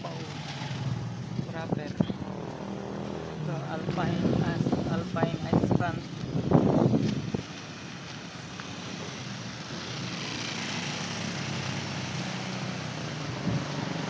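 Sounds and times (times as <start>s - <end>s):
traffic engine hum and road noise: 0.0s - 14.0s.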